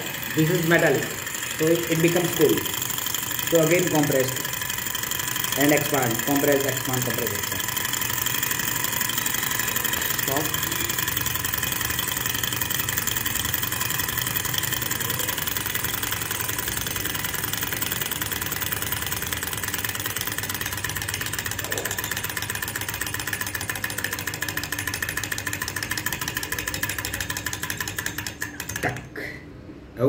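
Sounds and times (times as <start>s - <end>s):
model engine rapid clatter: 0.0s - 29.2s.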